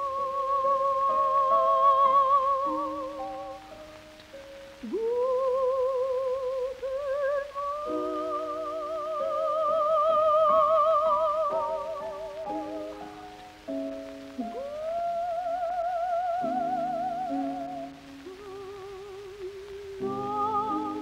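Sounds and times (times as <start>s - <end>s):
soprano singing with vibrato: 0.0s - 4.2s, 4.8s - 21.0s
piano chords: 0.0s - 21.0s.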